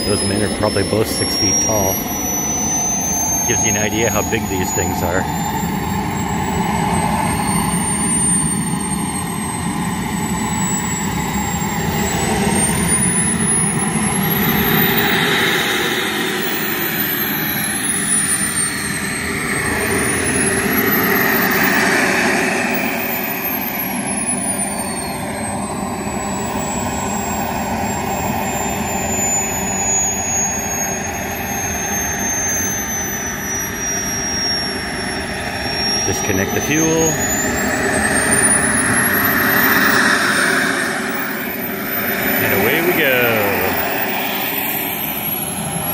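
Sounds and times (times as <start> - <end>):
model jet turbine engine whining: 0.0 - 45.9.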